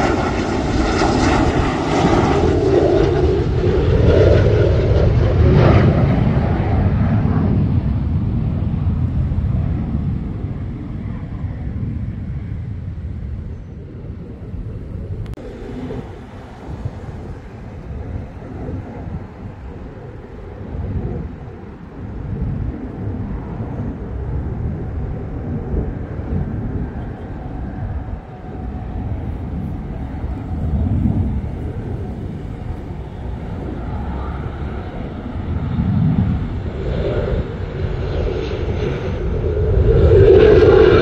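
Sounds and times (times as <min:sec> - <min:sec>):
distant jet aircraft rumble: 0:00.0 - 0:41.0.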